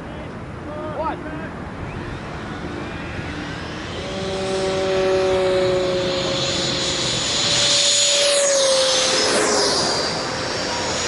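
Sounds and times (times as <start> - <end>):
aircraft engines whining: 0.1 - 11.0.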